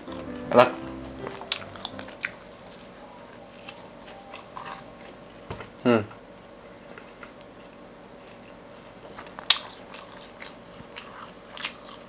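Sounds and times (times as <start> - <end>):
person chewing: 0.0 - 5.4, 6.9 - 12.0.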